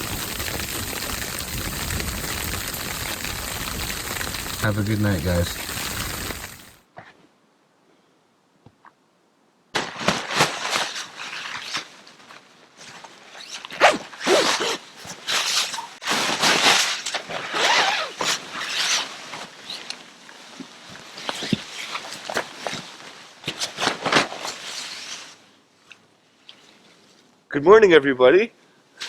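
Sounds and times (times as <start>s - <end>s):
rustling and crunching: 0.0s - 6.8s, 9.8s - 27.3s.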